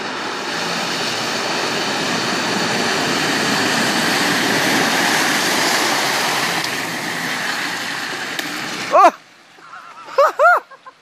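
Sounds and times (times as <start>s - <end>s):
vehicle engine under load: 0.0s - 10.3s
water splashing: 0.0s - 10.8s.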